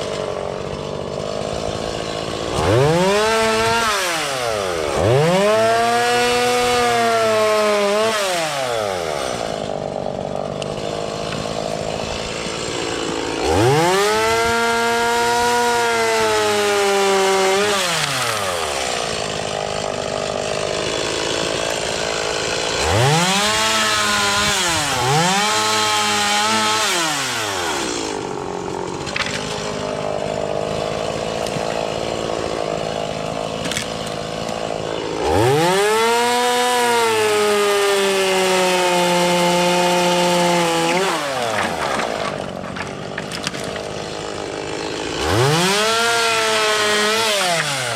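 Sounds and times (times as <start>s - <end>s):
chainsaw revving and idling: 0.0s - 47.9s.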